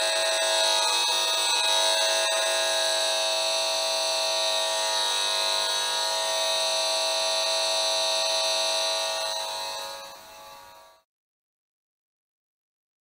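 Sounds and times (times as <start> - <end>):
electronic meter buzz: 0.0 - 11.1.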